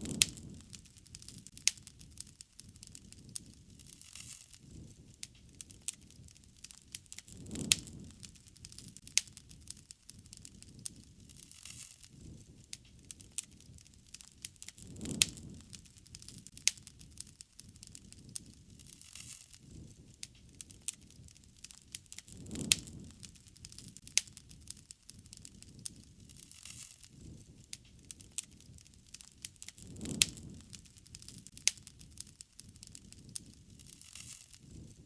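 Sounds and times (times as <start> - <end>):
low rush of flame: 0.0 - 35.0
sharp pops and snaps: 0.0 - 35.0
wood fire crackling: 0.0 - 35.0.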